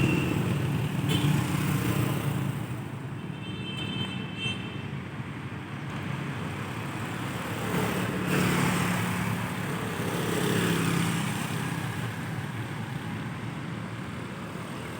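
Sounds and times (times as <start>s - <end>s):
steady traffic noise: 0.0s - 14.9s.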